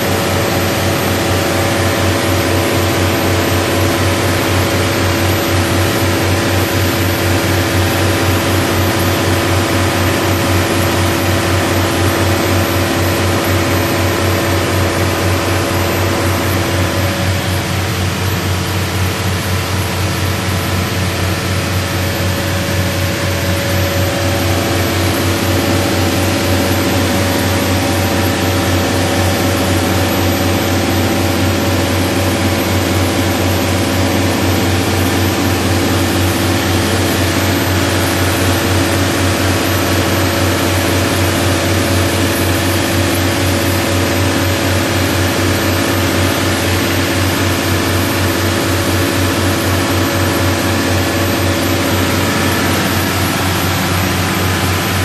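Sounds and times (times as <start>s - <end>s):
boat diesel engines droning: 0.0s - 55.0s.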